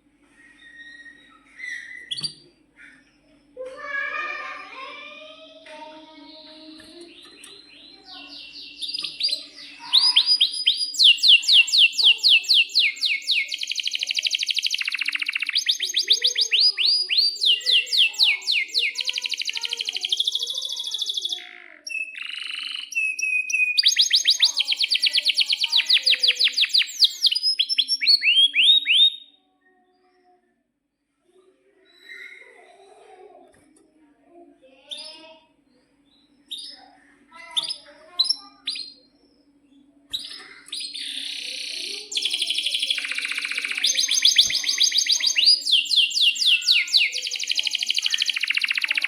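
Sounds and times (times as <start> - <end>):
canary singing rolling trills: 0.0 - 4.9, 5.5 - 29.4, 34.8 - 49.0.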